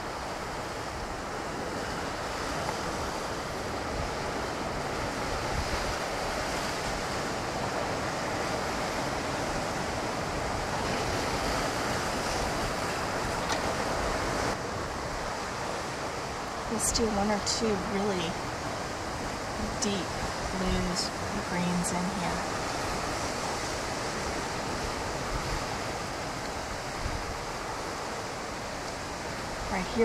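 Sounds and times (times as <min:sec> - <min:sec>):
ocean surf washing on shore: 0:00.0 - 0:30.0.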